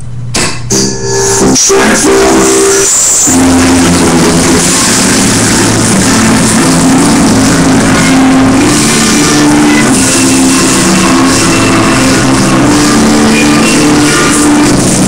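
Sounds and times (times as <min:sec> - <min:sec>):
loud distorted dance music: 0:00.7 - 0:15.0.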